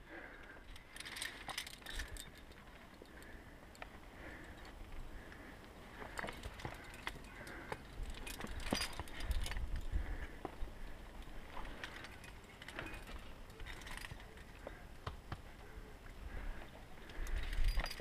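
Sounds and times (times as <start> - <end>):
metal climbing gear clinking: 0.0 - 18.0.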